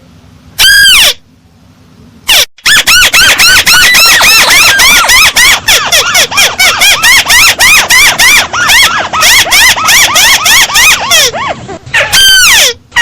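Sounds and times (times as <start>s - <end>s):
crake calling: 0.6s - 1.3s, 2.3s - 13.0s.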